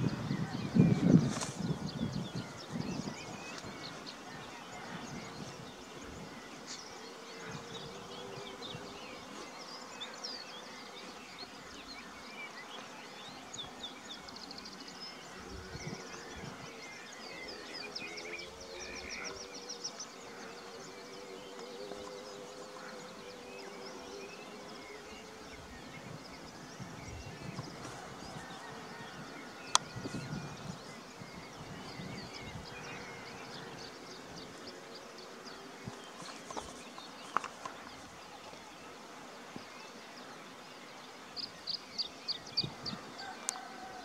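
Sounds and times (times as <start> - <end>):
insects buzzing: 0.0 - 44.0
small birds chirping: 0.0 - 44.0.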